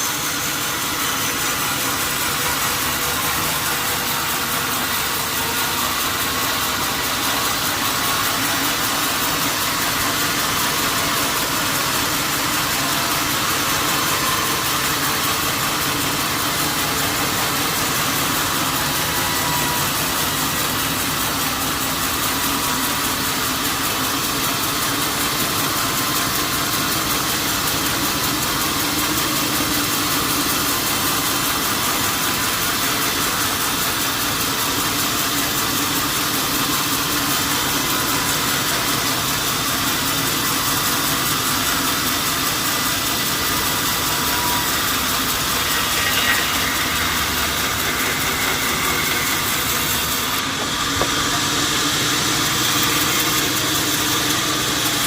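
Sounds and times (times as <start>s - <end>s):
mechanical hum and hiss: 0.0s - 55.0s.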